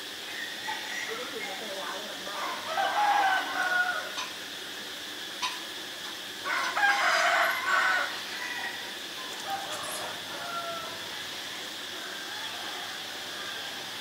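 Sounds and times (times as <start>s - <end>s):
thin high buzz: 0.0s - 12.5s
rooster crowing: 0.3s - 4.3s, 6.4s - 14.0s.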